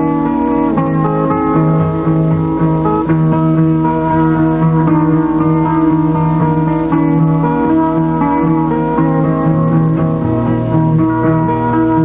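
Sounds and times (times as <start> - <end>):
instrumental music with plucked notes: 0.0 - 12.0.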